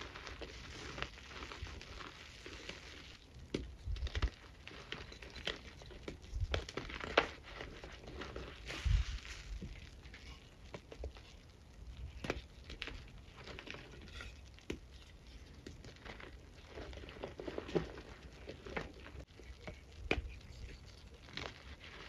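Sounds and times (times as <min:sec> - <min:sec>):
powder blocks crunching and snapping: 0:00.0 - 0:22.0
powder pattering: 0:00.0 - 0:22.0.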